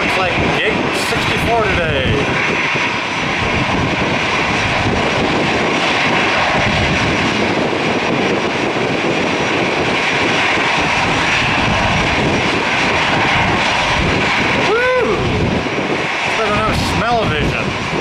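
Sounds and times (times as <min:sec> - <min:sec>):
jet airliner engines: 0:00.0 - 0:18.0.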